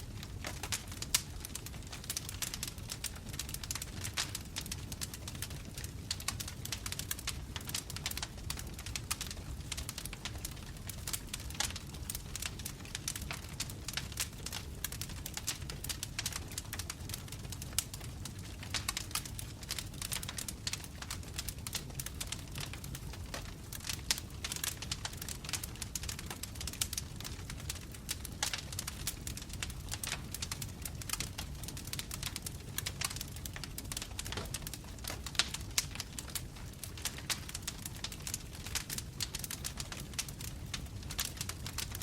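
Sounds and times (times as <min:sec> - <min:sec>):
logs crackling and popping: 0:00.0 - 0:42.0
low rumble of flame: 0:00.0 - 0:42.0.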